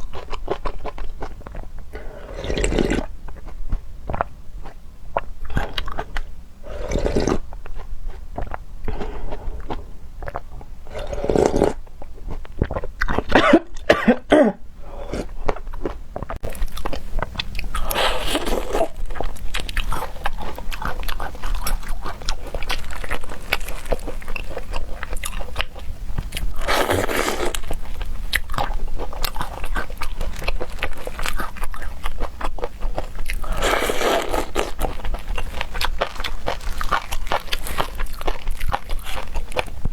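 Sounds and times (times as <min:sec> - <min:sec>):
person chewing: 0:00.0 - 0:14.3, 0:14.9 - 0:39.9.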